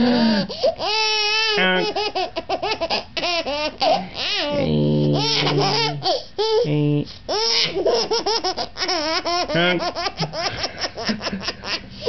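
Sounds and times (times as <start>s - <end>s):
baby laughing: 0.8s - 6.7s, 7.3s - 11.9s.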